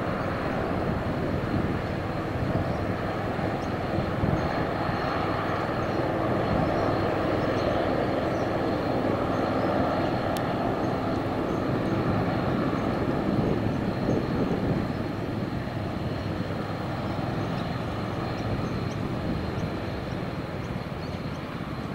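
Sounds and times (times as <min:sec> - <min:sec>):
airliner engines at takeoff: 0:00.0 - 0:21.9.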